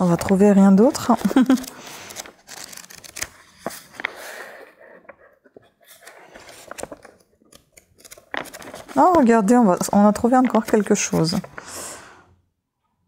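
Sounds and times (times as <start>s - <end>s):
book pages rustling: 0.0s - 11.9s.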